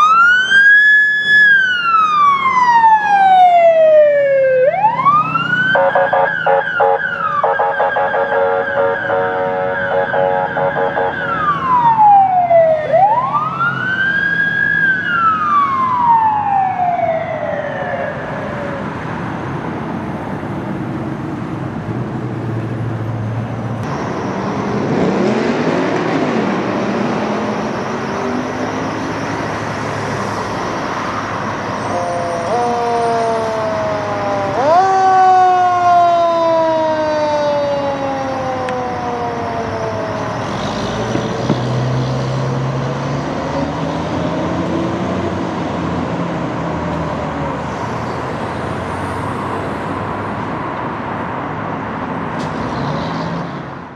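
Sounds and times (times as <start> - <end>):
fire truck siren wailing: 0.0 - 20.2, 23.8 - 50.6.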